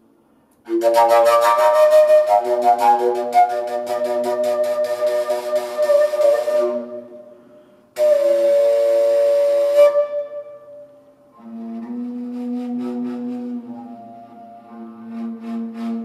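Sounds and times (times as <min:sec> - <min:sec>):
flute playing held notes: 0:00.7 - 0:16.0.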